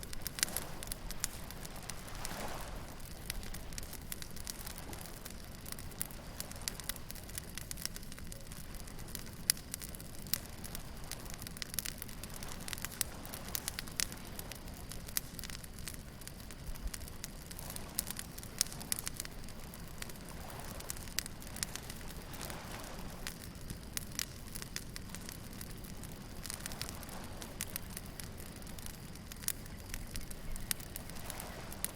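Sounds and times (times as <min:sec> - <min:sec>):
bonfire crackling and popping: 0:00.0 - 0:31.9
low rumble of surf: 0:00.0 - 0:31.9.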